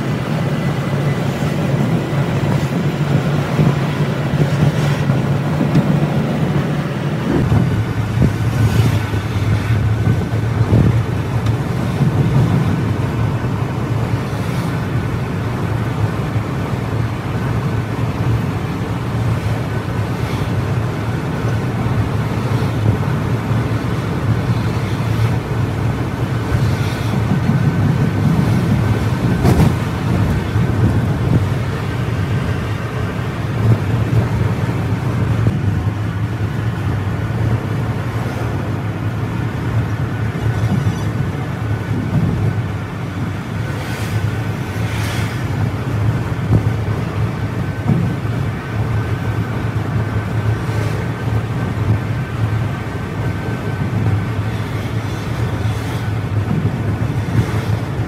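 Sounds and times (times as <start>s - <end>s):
coach engine drone and road noise: 0.0s - 58.0s.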